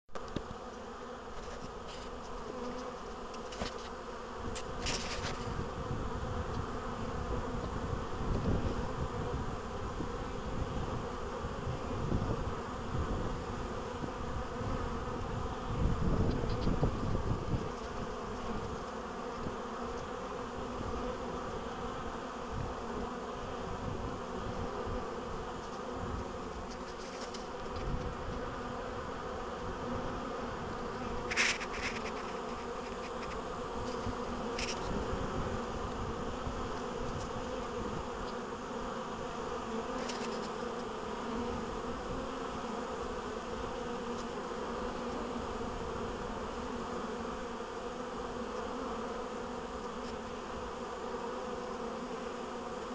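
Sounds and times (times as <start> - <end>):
honeybees buzzing: 0.1 - 52.9.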